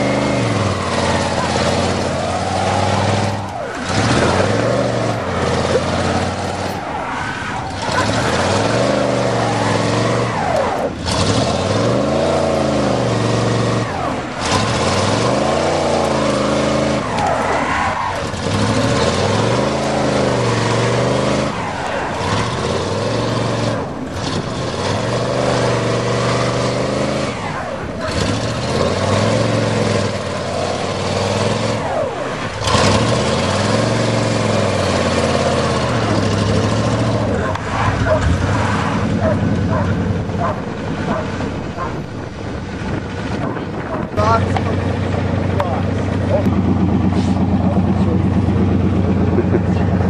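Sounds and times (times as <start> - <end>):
vehicle engines revving under load: 0.0 - 50.0.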